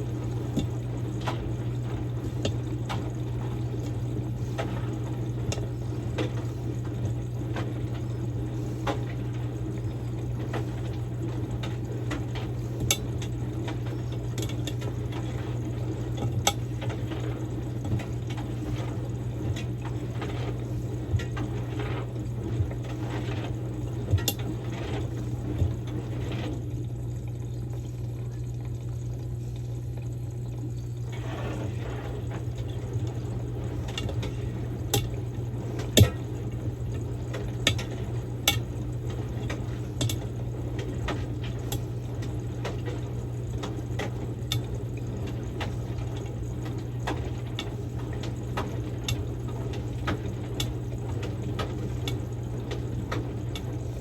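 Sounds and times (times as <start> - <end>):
motor hum: 0.0 - 54.0
water sloshing in washing machine: 0.0 - 54.0.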